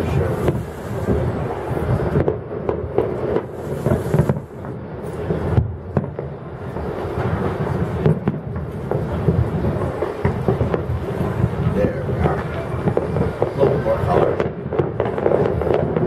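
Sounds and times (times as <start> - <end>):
distant fireworks booms and pops: 0.0 - 16.0.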